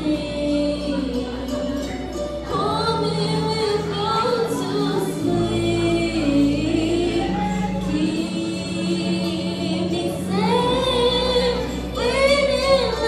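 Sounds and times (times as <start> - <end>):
women singing: 0.0 - 13.0.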